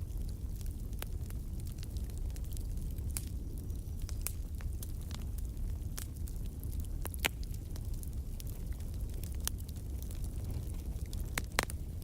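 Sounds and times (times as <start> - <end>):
burning logs crackling and popping: 0.0 - 12.0
low rumble of flames: 0.0 - 12.0.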